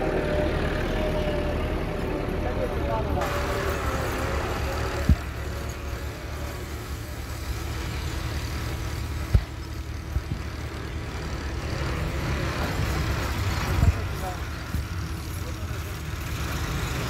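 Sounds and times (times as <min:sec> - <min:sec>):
motor vehicle engine running: 0:00.0 - 0:17.0.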